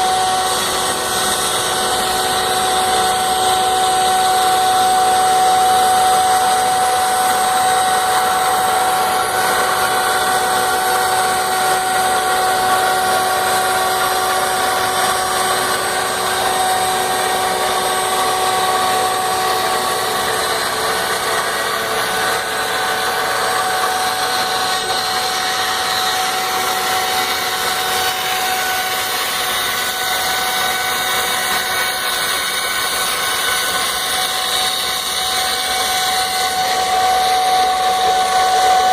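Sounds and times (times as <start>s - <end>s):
router cutting plastic sheet: 0.0s - 38.9s
router spindle whine: 0.0s - 38.9s.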